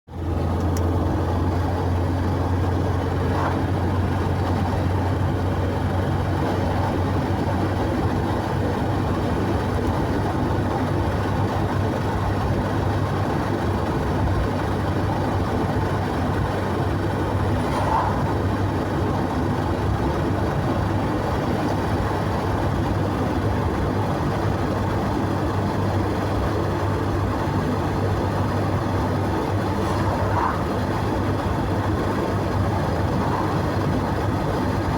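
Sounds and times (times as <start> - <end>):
road noise: 0.1 - 34.9
vehicle engine drone: 0.1 - 34.9.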